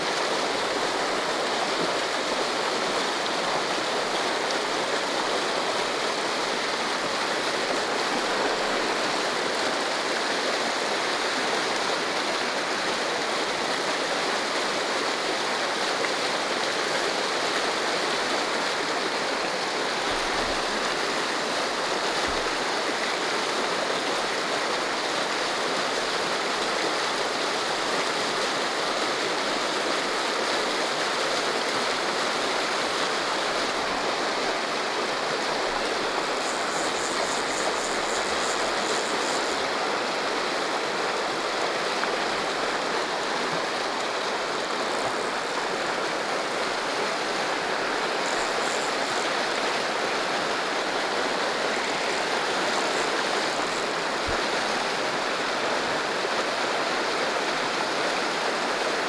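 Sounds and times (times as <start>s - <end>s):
river rushing over boulders: 0.0s - 59.0s.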